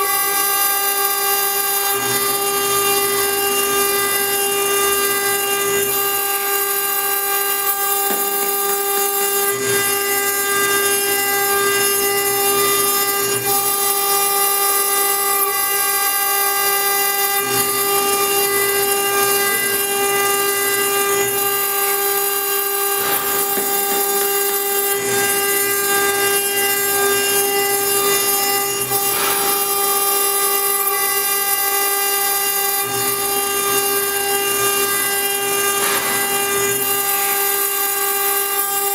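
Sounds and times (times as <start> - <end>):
gritty stone cutting noise: 0.0 - 38.9
router spindle high whine: 0.0 - 38.9.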